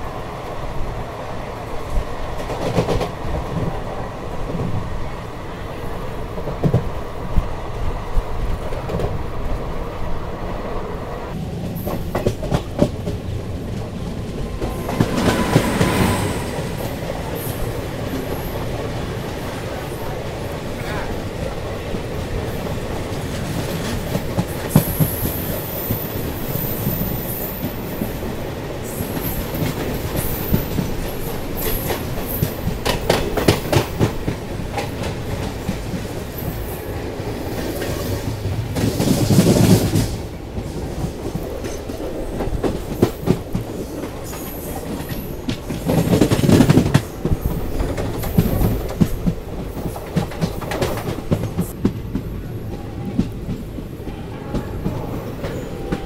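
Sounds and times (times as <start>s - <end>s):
train wheels clickety-clack: 1.5s - 4.9s, 6.3s - 9.7s, 11.3s - 56.0s.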